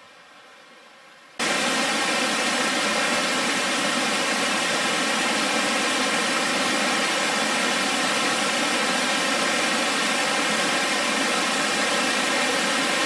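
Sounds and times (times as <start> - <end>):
waterfall rushing: 1.4 - 13.0.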